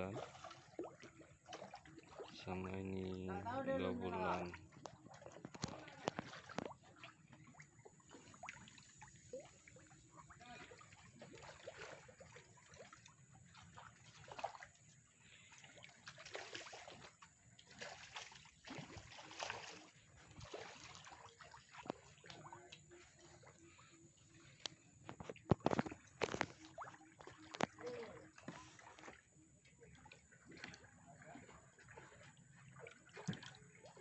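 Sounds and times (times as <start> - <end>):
faint water splashing and sloshing: 0.0 - 34.0.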